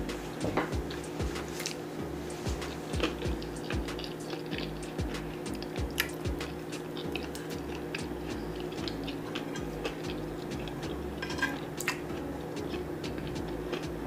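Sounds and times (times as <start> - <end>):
chewing and mouth noises: 0.0 - 14.0
steady low hum: 0.0 - 14.0.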